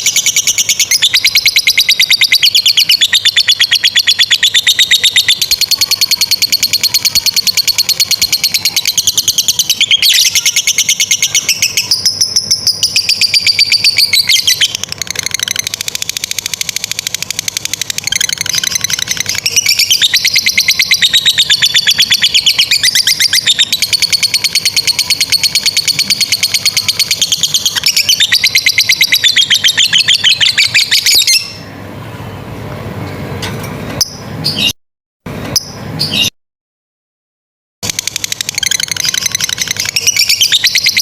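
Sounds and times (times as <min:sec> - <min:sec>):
lovebird chattering trill: 0:00.0 - 0:31.6, 0:37.8 - 0:41.0
bird chirps: 0:00.0 - 0:31.7, 0:34.0 - 0:34.8, 0:35.5 - 0:36.3, 0:37.8 - 0:41.0.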